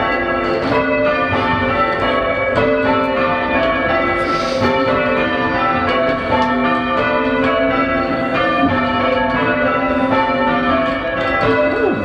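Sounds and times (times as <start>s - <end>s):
church bells change ringing: 0.0s - 12.0s.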